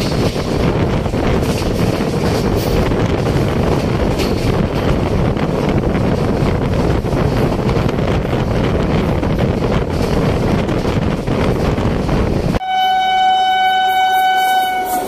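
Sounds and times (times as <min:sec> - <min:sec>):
wind buffeting microphone: 0:00.0 - 0:12.6
moving train running noise: 0:00.0 - 0:15.0.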